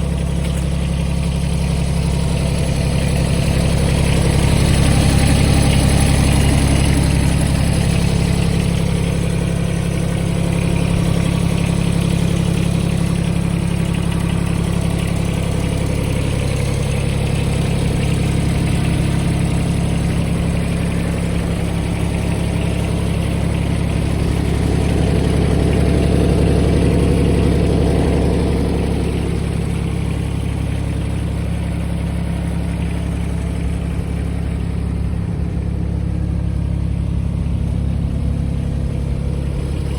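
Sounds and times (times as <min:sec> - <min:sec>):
ride-on mower engine running: 0:00.0 - 0:39.9.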